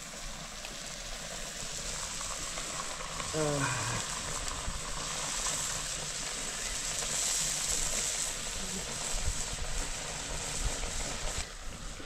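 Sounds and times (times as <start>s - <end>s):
curry sizzling in a wok: 0.0s - 12.0s.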